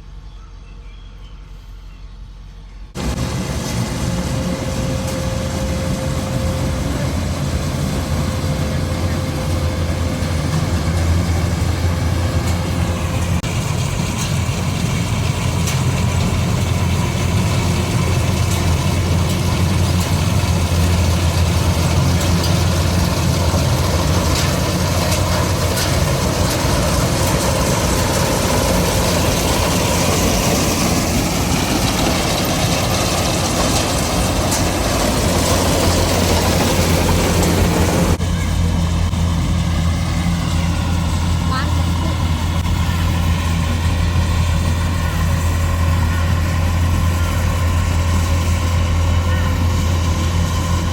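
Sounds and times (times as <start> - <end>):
combine harvester engine humming: 0.0 - 50.9.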